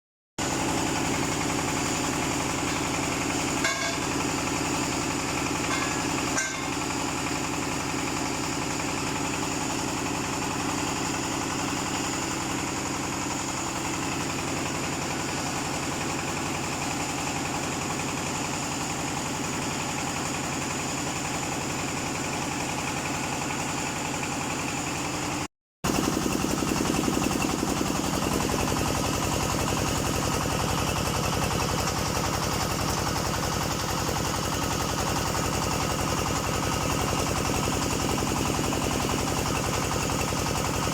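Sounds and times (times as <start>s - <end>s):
diesel engine running: 0.4s - 40.9s.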